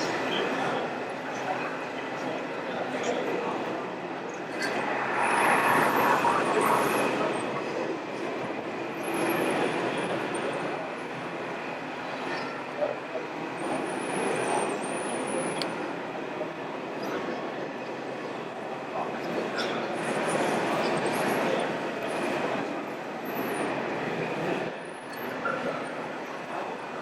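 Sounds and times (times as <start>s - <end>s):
crowd chatter: 0.0s - 27.0s.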